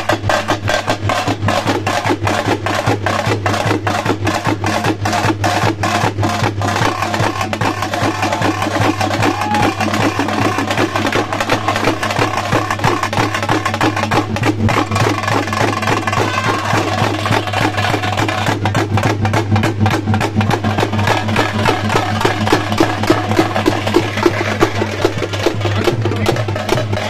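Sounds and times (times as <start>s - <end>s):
barrel drum: 0.0s - 27.0s
frame drums struck with sticks: 0.0s - 27.0s.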